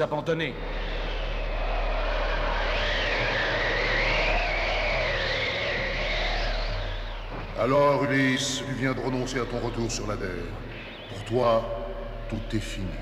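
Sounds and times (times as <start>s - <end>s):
low rumble: 0.5s - 13.0s
wavering howling electronic tone: 0.5s - 13.0s.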